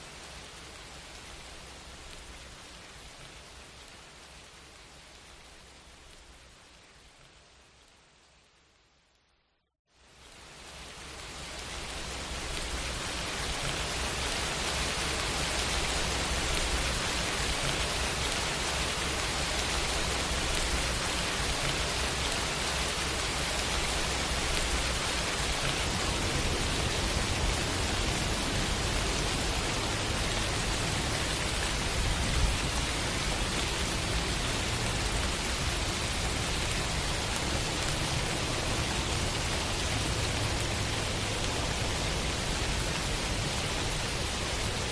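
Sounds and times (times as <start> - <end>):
rain hiss: 0.0 - 9.2, 9.9 - 44.9.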